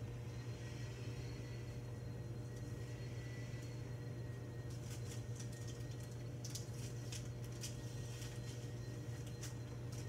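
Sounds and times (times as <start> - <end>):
faint high whine: 0.0 - 10.0
low room hum: 0.0 - 10.0.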